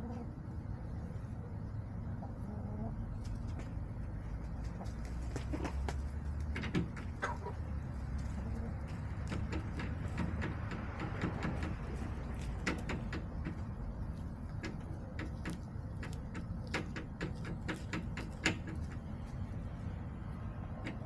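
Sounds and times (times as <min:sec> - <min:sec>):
hens pecking hard surfaces: 0:00.0 - 0:21.0
steady low rumble: 0:00.0 - 0:21.0.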